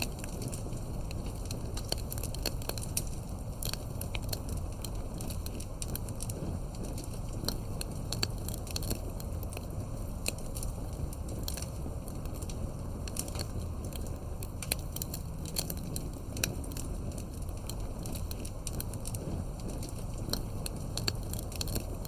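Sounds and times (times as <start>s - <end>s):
wood bonfire crackling and popping: 0.0s - 22.0s.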